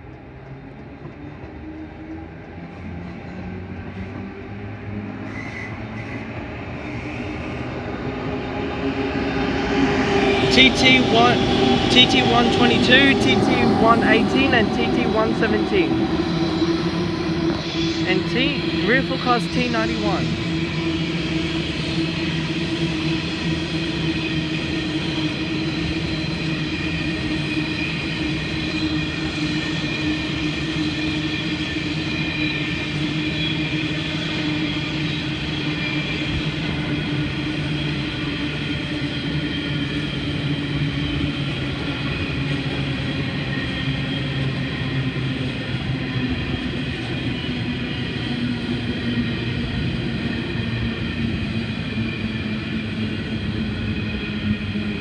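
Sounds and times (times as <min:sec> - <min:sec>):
steady train hum: 0:00.0 - 0:55.0
train wheels rumbling on rail: 0:00.0 - 0:55.0.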